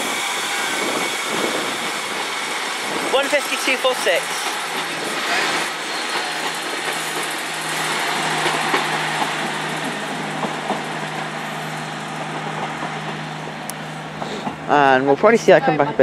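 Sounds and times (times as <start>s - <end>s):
train diesel engines droning: 0.0s - 16.0s.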